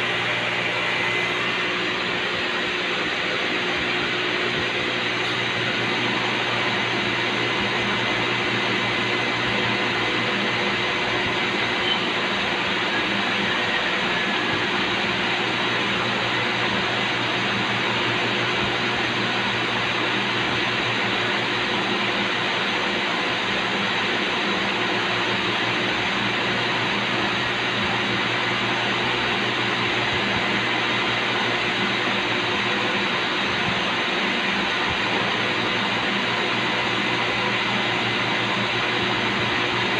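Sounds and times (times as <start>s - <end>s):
machining center running: 0.0s - 39.9s.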